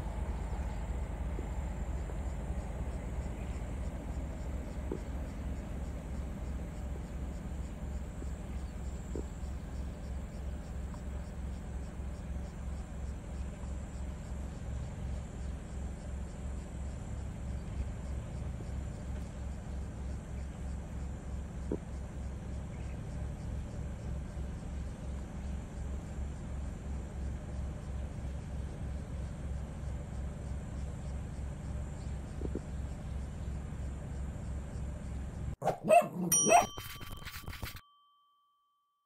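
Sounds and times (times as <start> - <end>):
vehicle engine idling: 0.0 - 35.6.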